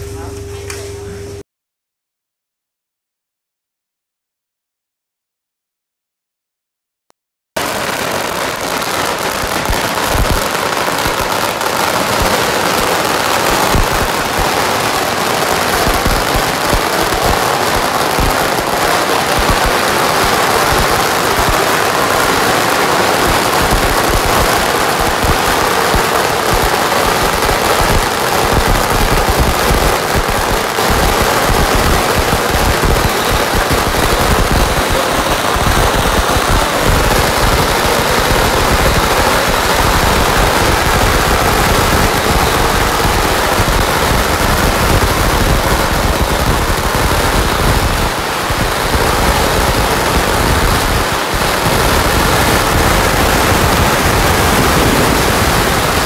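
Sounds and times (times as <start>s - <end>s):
firecrackers crackling: 7.6s - 56.0s.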